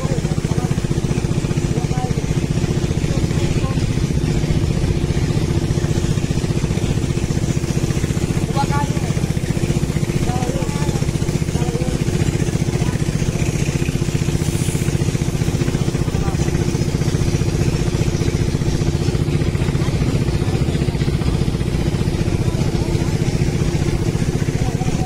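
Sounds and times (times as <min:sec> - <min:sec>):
small boat engine running: 0:00.0 - 0:25.0.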